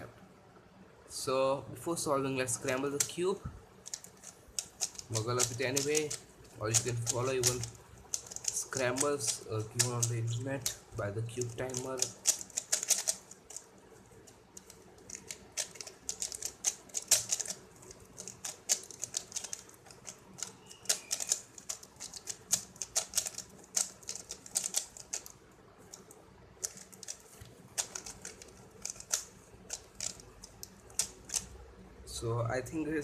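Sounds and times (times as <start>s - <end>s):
puzzle cube layers clicking: 2.5s - 31.6s.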